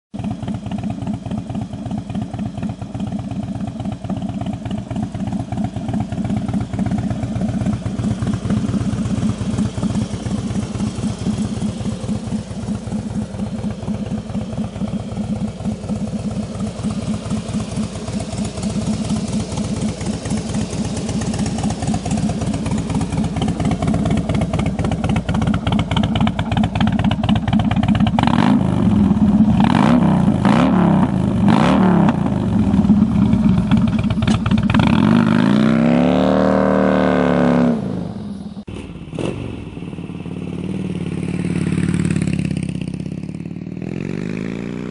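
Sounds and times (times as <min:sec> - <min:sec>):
motorcycle engine idling: 0:00.1 - 0:37.2, 0:37.9 - 0:44.9
motorcycle engine revving: 0:00.2 - 0:44.9.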